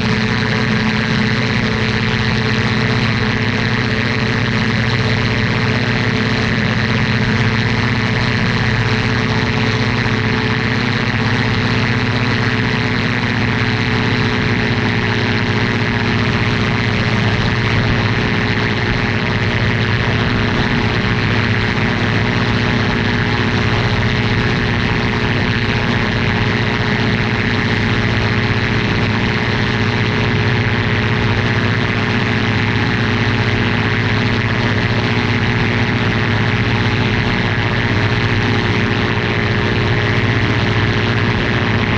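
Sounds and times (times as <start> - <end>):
light aircraft engine drone: 0.0 - 41.9.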